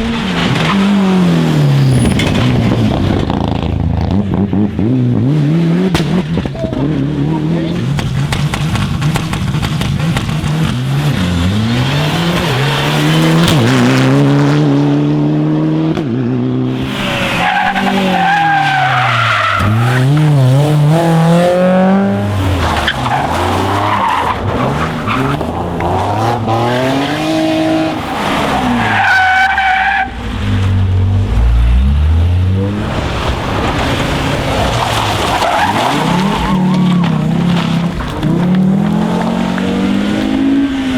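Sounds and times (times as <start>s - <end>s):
tyres skidding: 0.0s - 15.0s, 16.5s - 40.9s
rally car engines revving: 0.0s - 40.9s.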